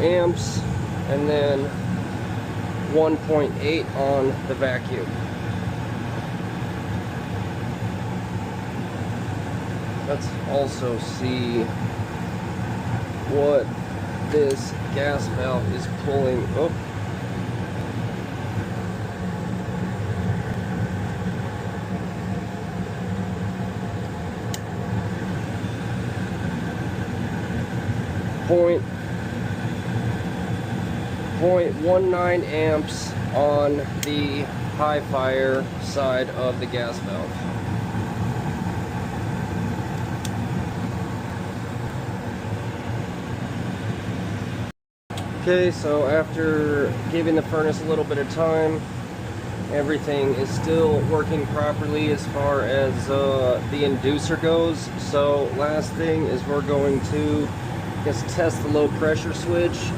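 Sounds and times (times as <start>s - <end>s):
gas furnace humming: 0.0s - 59.9s.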